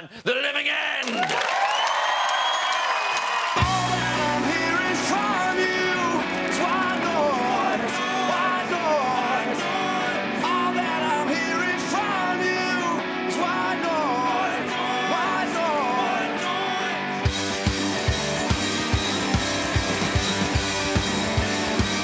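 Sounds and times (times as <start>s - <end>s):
bass: 3.6s - 22.0s
electric guitar riff: 3.6s - 22.0s.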